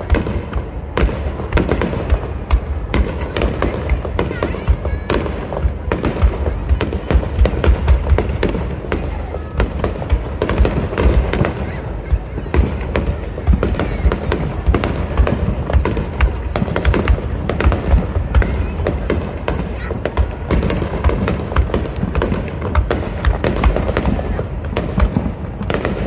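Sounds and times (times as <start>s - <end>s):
fireworks booms and crackles: 0.0s - 26.0s.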